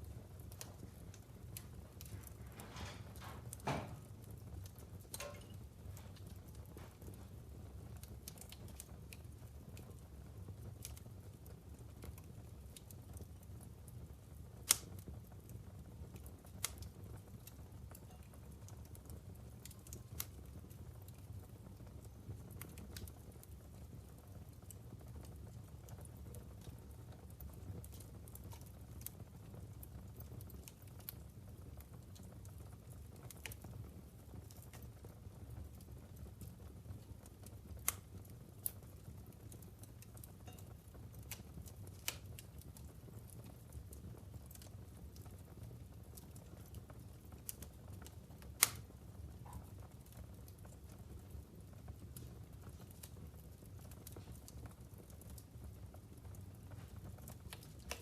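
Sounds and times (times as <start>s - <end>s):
logs crackling and popping in fireplace: 0.0s - 58.0s.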